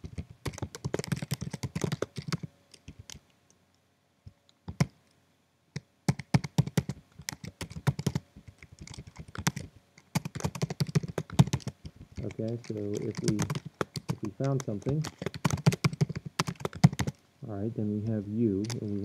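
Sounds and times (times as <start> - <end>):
typing on computer keyboard: 0.0 - 3.2, 4.7 - 4.9, 5.8 - 17.2, 18.6 - 19.0.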